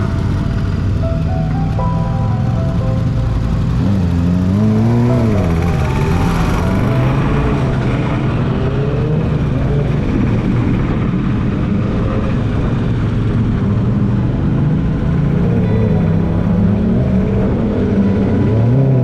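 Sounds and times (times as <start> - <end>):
motorcycle engine running: 2.4 - 18.4.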